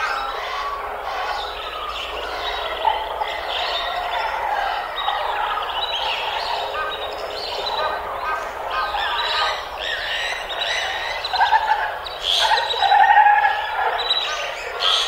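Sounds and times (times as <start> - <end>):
birds chirping chorus: 0.0 - 15.0.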